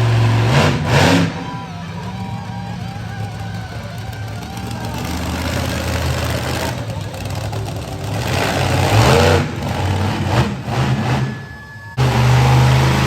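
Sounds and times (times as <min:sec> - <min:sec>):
truck engine revving loudly: 0:00.0 - 0:13.0.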